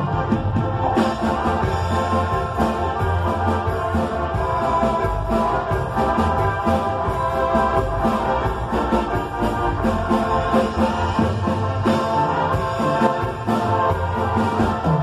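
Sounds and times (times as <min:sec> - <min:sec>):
dance-band music with keyboard: 0:00.0 - 0:15.0.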